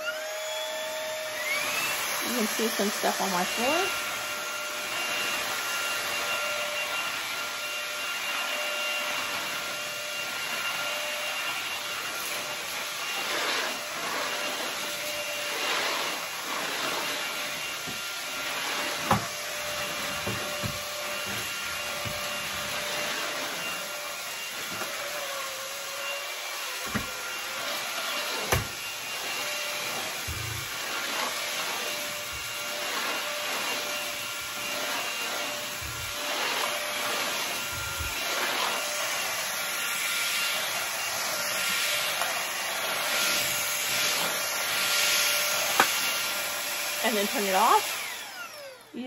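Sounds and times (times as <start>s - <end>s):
stick vacuum running: 0.0s - 49.0s.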